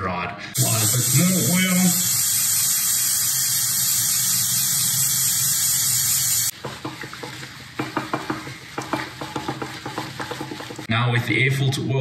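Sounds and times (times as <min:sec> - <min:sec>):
aerosol spray hissing: 0:00.6 - 0:10.9.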